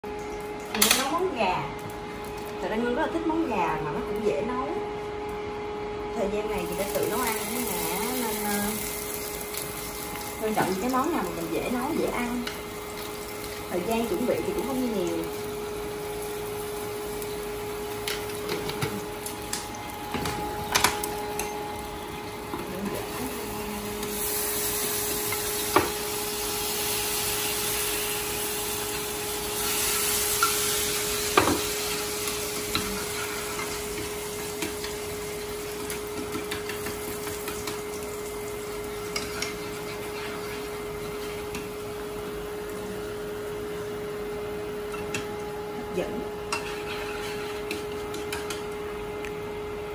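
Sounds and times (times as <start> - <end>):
steady hum: 0.0 - 49.9
chicken sizzling in hot oil: 6.5 - 49.1.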